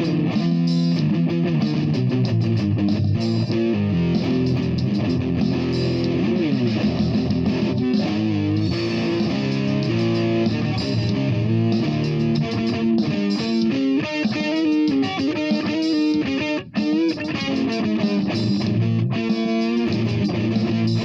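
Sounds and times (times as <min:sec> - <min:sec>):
bass backing: 0:00.0 - 0:13.8, 0:17.2 - 0:21.0
electric guitar playing: 0:00.0 - 0:21.0.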